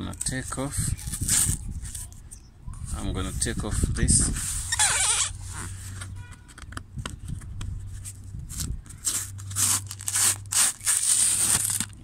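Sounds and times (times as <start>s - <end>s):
tape peeling from cardboard: 0.2s - 2.4s, 4.4s - 12.0s.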